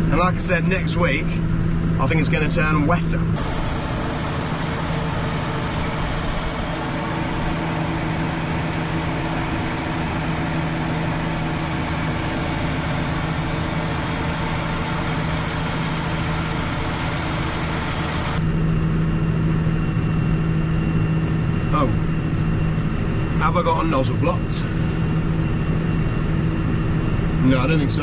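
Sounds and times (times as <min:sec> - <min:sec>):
tractor engine humming: 0:00.0 - 0:28.0.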